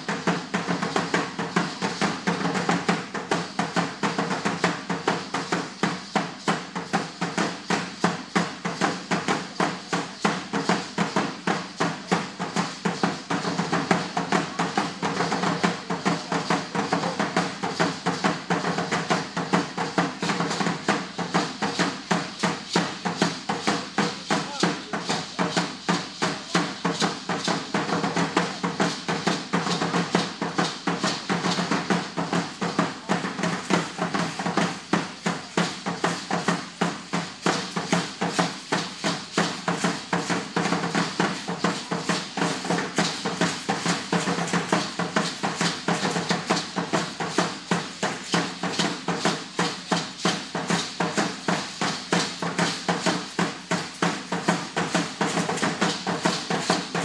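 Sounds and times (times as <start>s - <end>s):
drums beating steadily: 0.0s - 57.0s.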